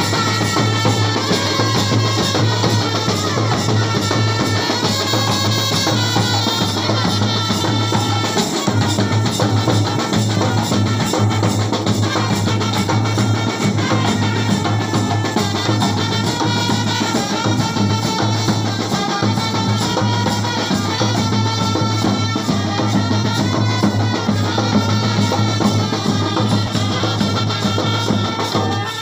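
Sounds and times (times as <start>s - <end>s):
band melody: 0.0s - 29.0s
bass drum and snare drums: 0.0s - 29.0s.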